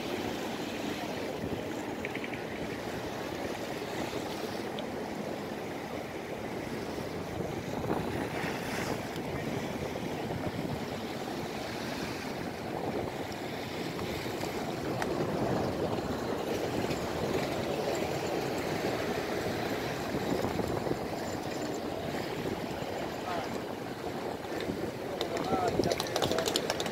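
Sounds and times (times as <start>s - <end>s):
small waves washing against stone wall: 0.0s - 26.9s.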